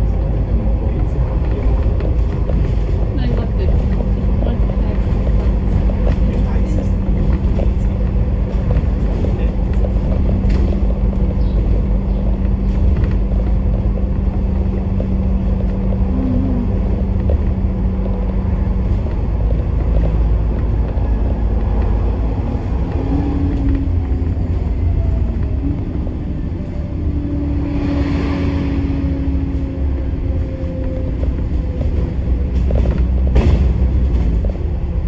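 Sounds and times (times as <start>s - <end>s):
bus engine and road rumble: 0.0s - 35.0s
low hum: 0.0s - 35.0s.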